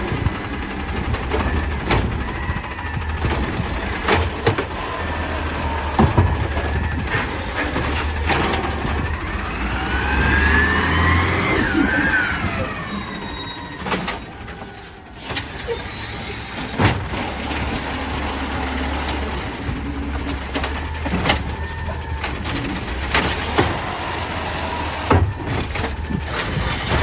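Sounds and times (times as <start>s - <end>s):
garbage truck diesel engine: 0.0s - 27.0s
hydraulic arm whine: 0.0s - 27.0s.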